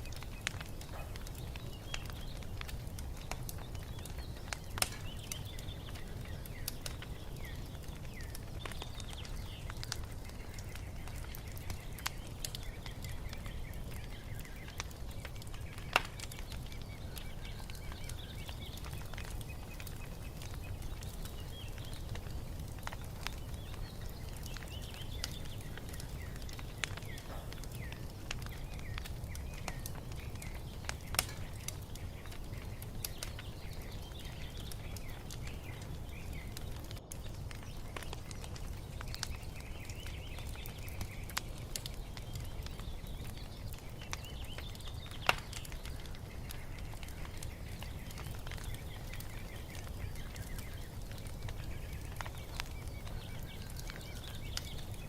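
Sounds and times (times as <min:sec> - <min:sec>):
songbirds chirping: 0:00.0 - 0:55.0
wood fire crackling and popping: 0:00.0 - 0:55.0.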